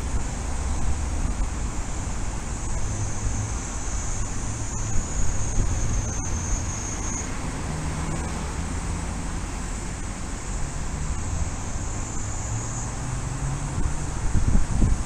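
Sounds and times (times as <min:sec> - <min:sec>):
downpour hissing: 0:00.0 - 0:15.0.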